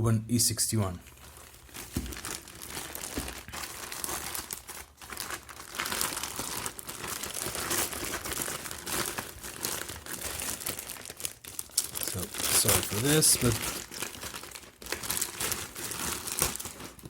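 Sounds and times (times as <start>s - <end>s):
packaging crinkling and rustling: 1.0s - 17.0s.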